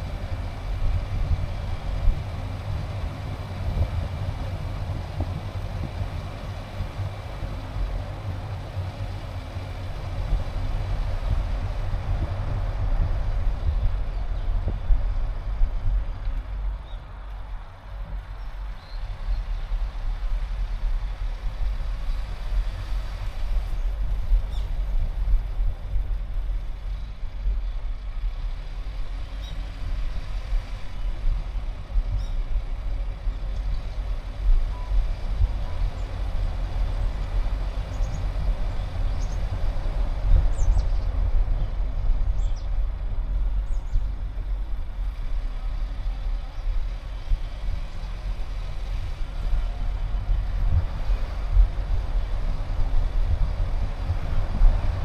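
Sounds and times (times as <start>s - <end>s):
car road and wind rumble: 0.0s - 55.0s.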